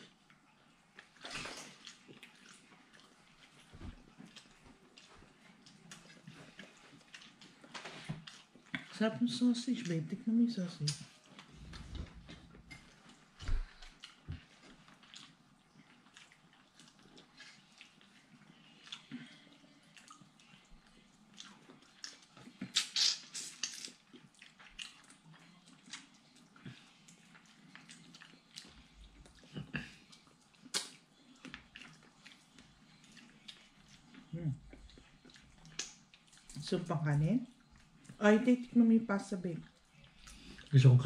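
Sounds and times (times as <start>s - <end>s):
chewing and mouth noises: 0.0s - 36.8s, 37.4s - 38.8s, 39.5s - 41.0s.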